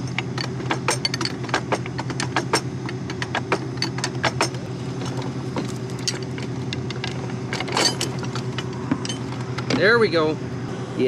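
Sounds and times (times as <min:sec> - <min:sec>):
wrenches clinking on metal: 0:00.0 - 0:09.9
engine idling: 0:00.0 - 0:11.0.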